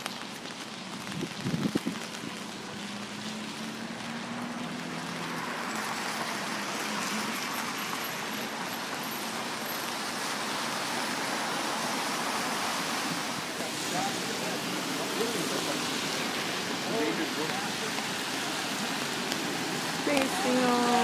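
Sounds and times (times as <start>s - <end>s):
rain: 0.0s - 21.0s
tyres hissing on wet street: 0.0s - 21.0s.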